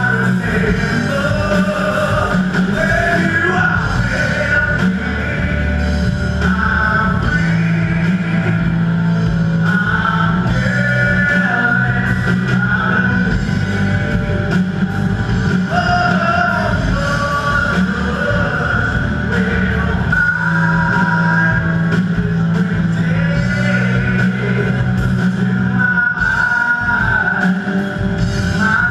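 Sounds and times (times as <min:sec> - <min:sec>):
person singing: 0:00.0 - 0:14.2, 0:15.5 - 0:28.9
drum kit: 0:00.0 - 0:28.9
electric guitar: 0:00.0 - 0:28.9.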